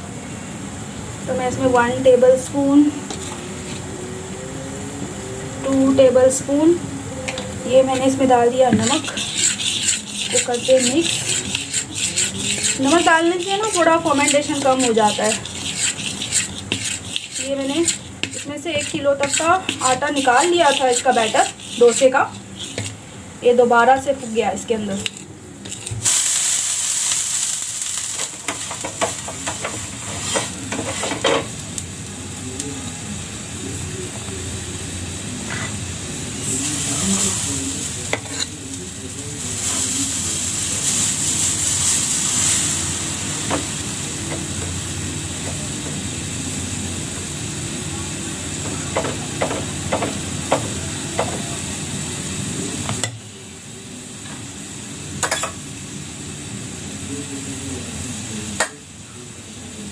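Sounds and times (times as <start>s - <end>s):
batter sizzling on hot pan: 7.3s - 59.9s.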